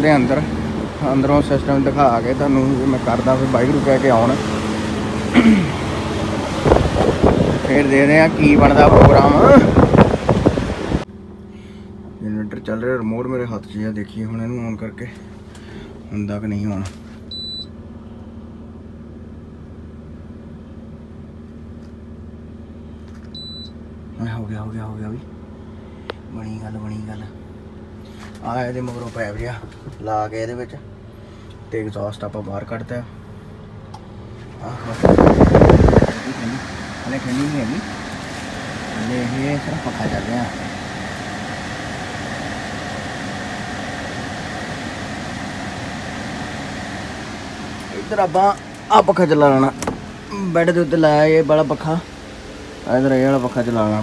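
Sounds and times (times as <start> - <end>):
air conditioner fan rushing air: 0.0 - 54.0
low mechanical hum: 0.0 - 54.0.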